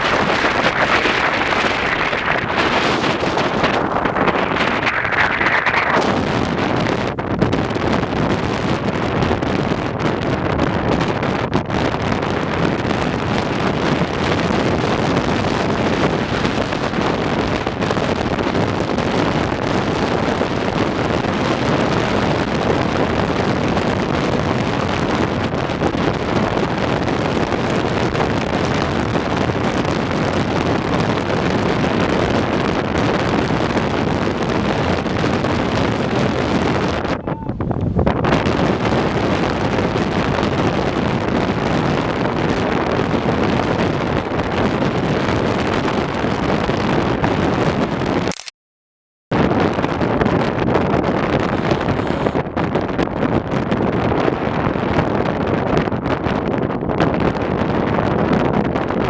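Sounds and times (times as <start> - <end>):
wind buffeting microphone: 0.0 - 48.4, 49.3 - 59.0.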